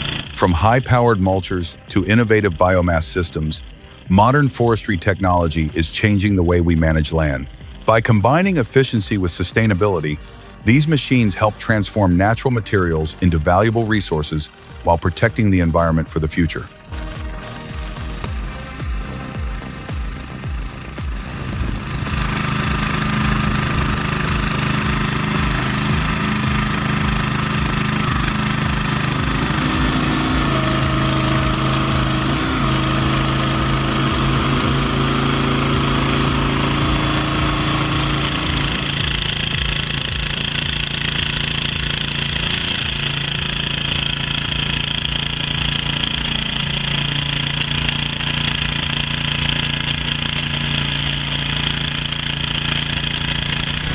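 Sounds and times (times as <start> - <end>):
heavy machinery engine under load: 0.0 - 53.9.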